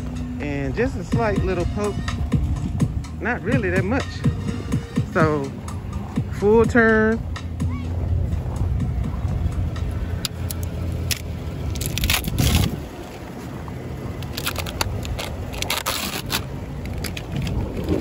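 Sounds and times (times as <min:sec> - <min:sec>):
pickup truck idling: 0:00.0 - 0:18.0
tires scraping on ground: 0:00.7 - 0:18.0.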